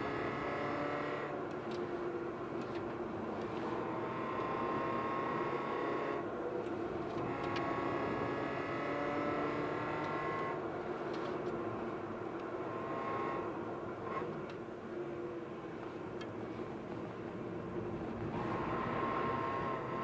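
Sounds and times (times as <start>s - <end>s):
car engine from inside cabin: 0.0s - 20.0s
road noise: 0.0s - 20.0s.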